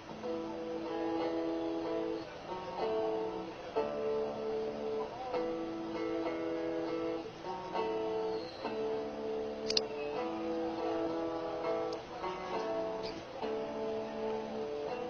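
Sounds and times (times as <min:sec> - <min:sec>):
plucked guitar chords: 0:00.0 - 0:15.0.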